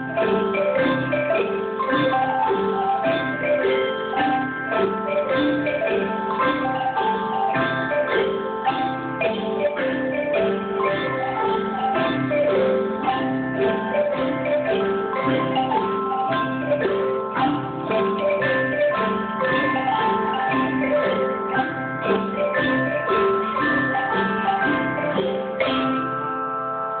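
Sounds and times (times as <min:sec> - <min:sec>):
xylophones playing: 0:00.0 - 0:27.0.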